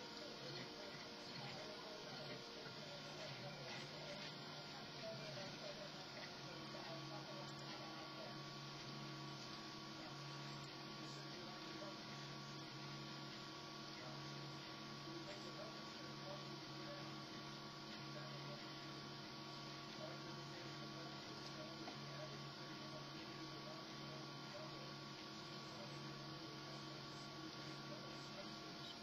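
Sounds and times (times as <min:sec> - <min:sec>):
printer faint hum: 0:00.0 - 0:29.0.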